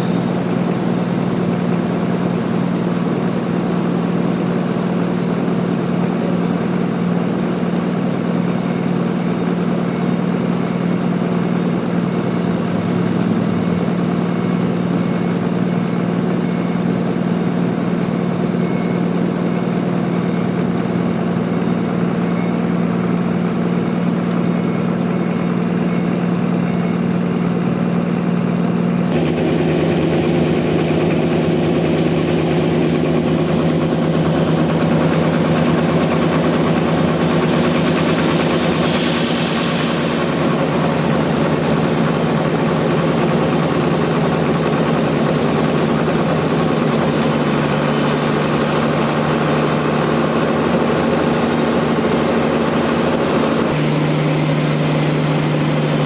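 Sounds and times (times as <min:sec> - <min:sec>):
sawmill machinery hum: 0:00.0 - 0:56.0.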